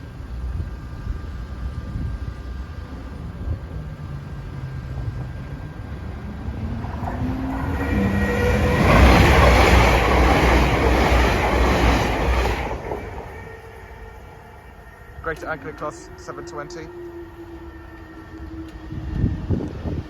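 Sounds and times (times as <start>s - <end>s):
electric train rumbling past: 0.0s - 20.0s.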